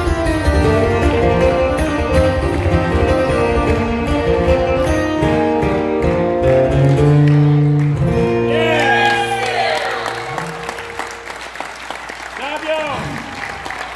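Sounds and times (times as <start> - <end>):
acoustic guitars strumming: 0.0 - 11.4.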